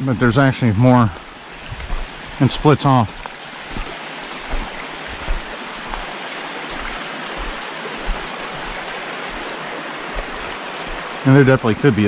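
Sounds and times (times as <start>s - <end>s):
creek rushing over rocks: 0.2s - 12.0s
soft low bumps: 1.2s - 11.3s.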